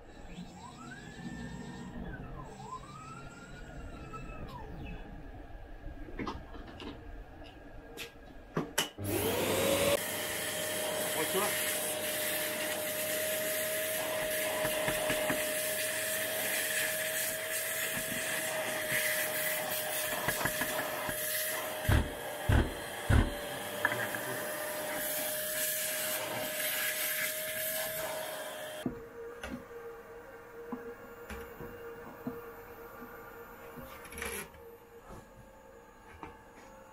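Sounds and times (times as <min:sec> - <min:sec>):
shop vacuum whining: 0:00.0 - 0:05.0, 0:09.0 - 0:36.9.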